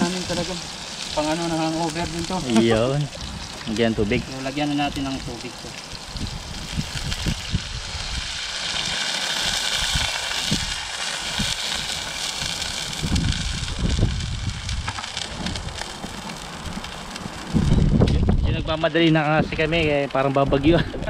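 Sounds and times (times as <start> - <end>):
water sizzling in a hot wok: 0.0 - 20.8
wind rumble on microphone: 2.0 - 8.9, 9.5 - 21.0.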